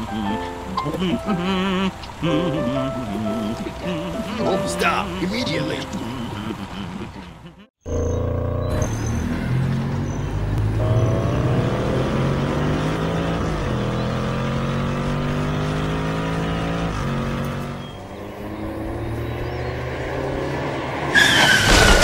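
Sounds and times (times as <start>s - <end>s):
car engine accelerating hard: 0.0s - 7.3s, 7.9s - 22.0s.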